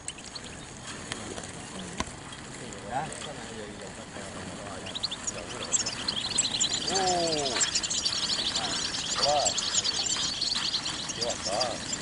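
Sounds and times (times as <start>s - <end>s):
goldfinches twittering: 0.0s - 0.8s, 1.5s - 12.0s.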